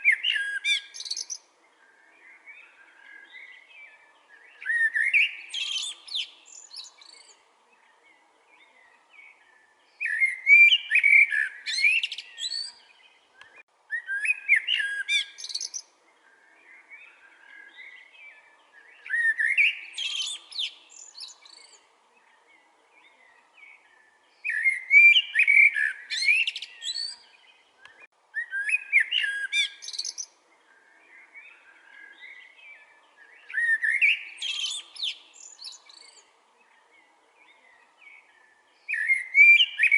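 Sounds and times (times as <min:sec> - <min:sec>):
blackbird singing: 0:00.0 - 0:39.9.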